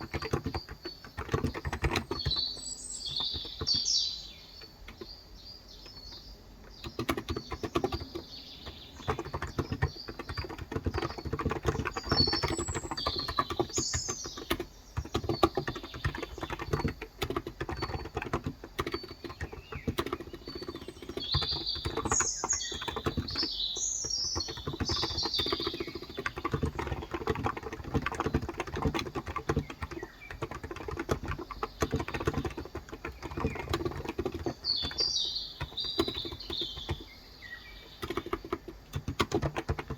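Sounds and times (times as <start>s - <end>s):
birds chirping: 0.0s - 39.9s
fast keyboard typing: 0.0s - 39.9s.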